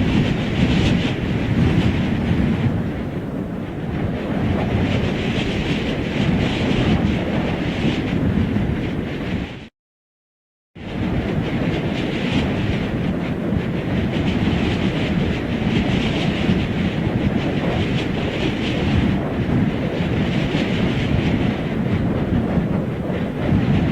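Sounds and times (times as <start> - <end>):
rushing wind with flutter: 0.0 - 9.7, 10.8 - 23.9.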